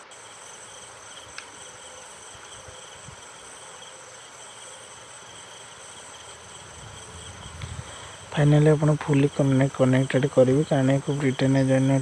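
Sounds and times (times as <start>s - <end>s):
insects chirring in a trill: 0.0s - 12.0s.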